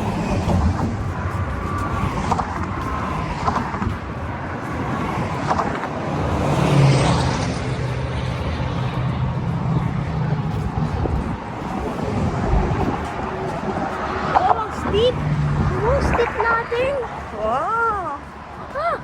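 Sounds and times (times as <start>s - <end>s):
road noise: 0.0s - 19.0s
vehicle engine: 0.0s - 19.0s.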